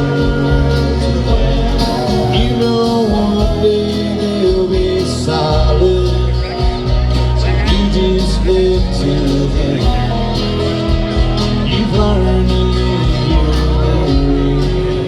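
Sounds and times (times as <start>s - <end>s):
country band playing acoustic: 0.0s - 15.0s.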